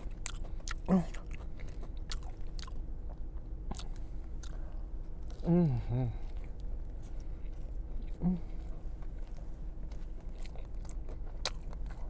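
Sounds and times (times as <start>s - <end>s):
closed-mouth hum: 0.0s - 12.0s
person chewing with mouth clicks: 0.0s - 12.0s.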